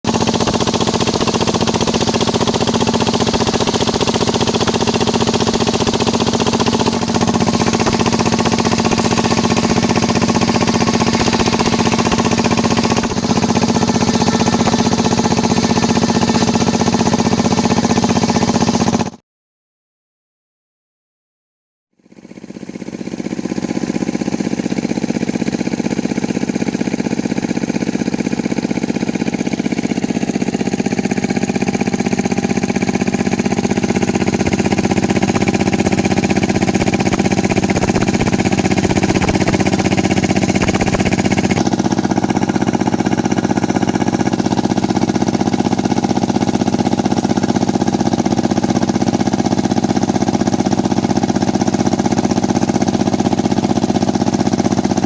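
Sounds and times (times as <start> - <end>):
sawmill engine running: 0.1 - 19.2, 22.1 - 55.0.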